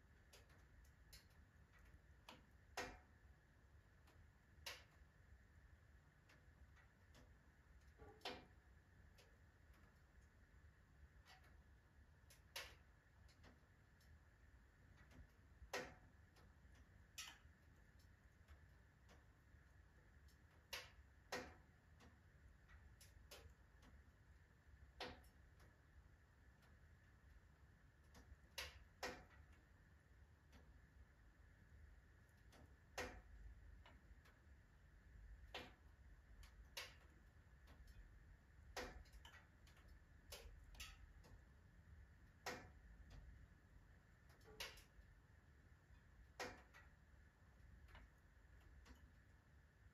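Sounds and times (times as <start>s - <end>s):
firewood crackling in stove: 0.0s - 49.9s.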